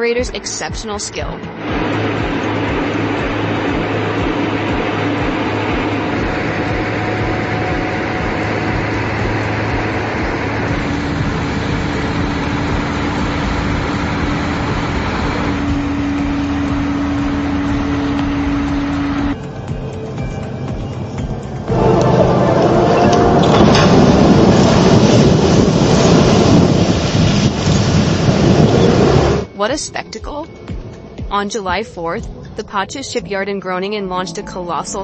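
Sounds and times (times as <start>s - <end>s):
heavy diesel engines running: 0.0s - 35.0s.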